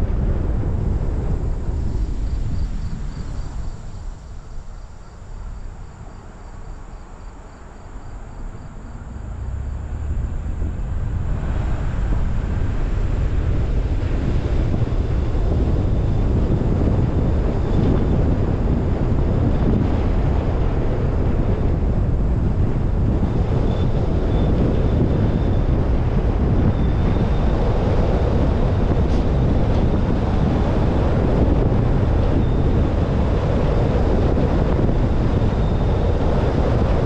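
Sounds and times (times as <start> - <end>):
tyre and road noise: 0.0 - 37.0
wind buffeting microphone: 0.0 - 37.0.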